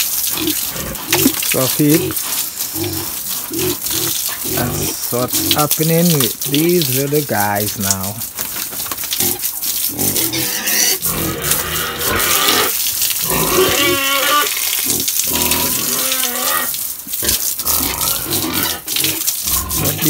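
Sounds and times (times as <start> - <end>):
water spraying and splashing: 0.0 - 20.0
pigs grunting and squealing: 0.2 - 7.2, 9.1 - 20.0.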